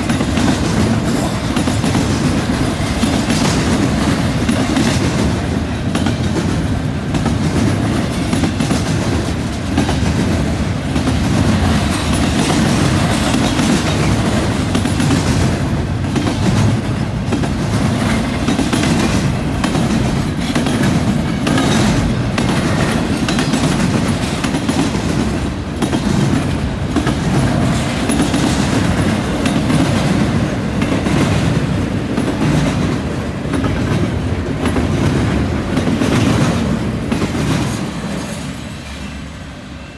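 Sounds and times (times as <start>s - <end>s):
freight train cars rolling: 0.0s - 39.9s
train wheels clacking over rails: 0.0s - 39.9s.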